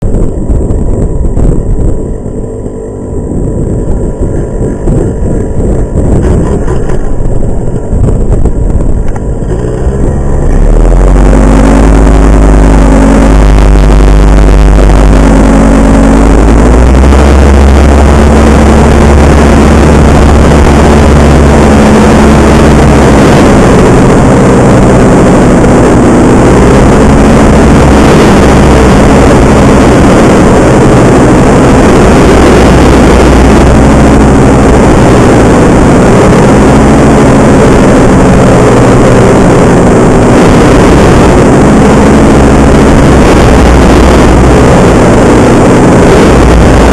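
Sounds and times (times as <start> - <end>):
paramotor engine and propeller: 0.0 - 46.9.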